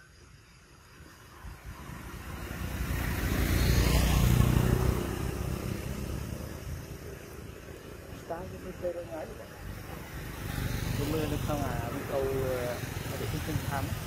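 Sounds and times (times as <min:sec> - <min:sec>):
motor vehicle passing by: 0:01.0 - 0:14.0.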